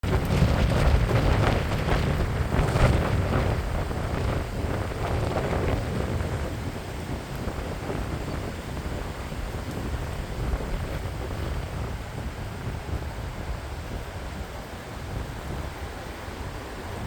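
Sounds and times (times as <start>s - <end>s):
surf rushing on beach: 0.0s - 17.0s
wind buffeting microphone: 0.0s - 17.0s.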